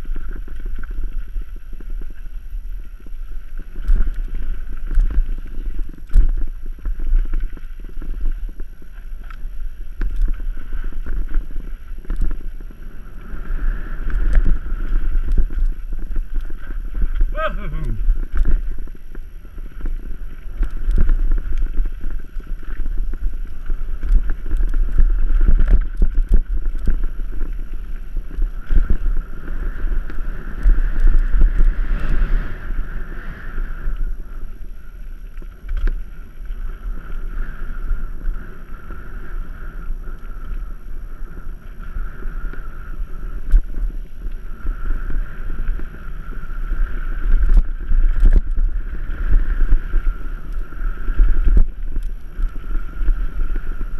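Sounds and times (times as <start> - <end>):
bike tyres rumbling on trail: 0.0 - 53.9
wind buffeting microphone: 0.0 - 53.9.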